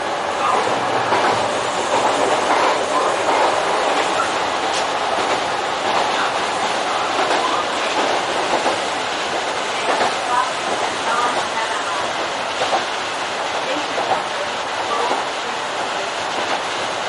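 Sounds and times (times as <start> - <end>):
train wheels rumbling on rail: 0.0 - 17.0
rail-joint clicks: 0.5 - 17.0.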